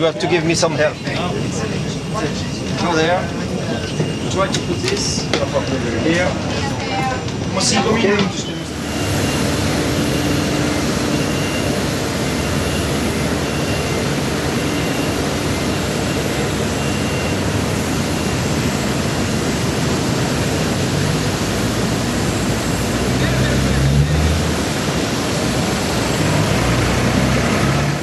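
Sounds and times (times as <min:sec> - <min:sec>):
aircraft cabin roar: 0:00.0 - 0:28.0.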